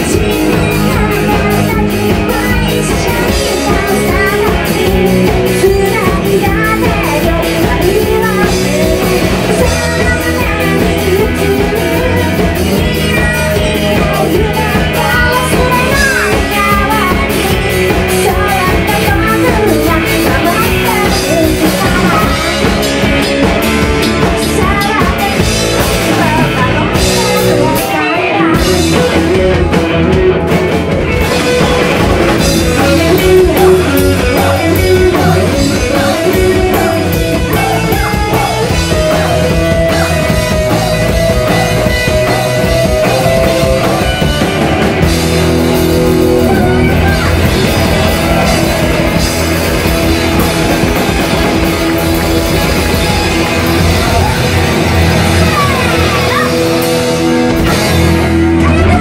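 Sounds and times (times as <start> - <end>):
bass guitar: 0.0 - 59.0
drum kit: 0.0 - 59.0
electric guitar: 0.0 - 59.0
woman singing lead: 0.0 - 59.0.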